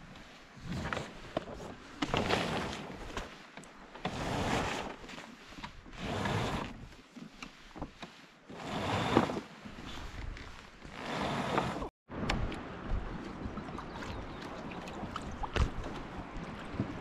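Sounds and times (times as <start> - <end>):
water washing along hulls: 0.0 - 17.0
boat knocks and creaks: 0.6 - 17.0.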